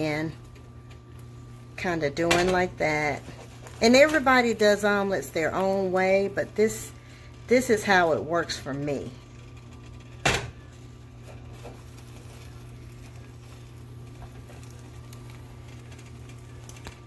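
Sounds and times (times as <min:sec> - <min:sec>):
low steady hum: 0:00.0 - 0:17.0
quiet cooking sounds: 0:00.0 - 0:17.0.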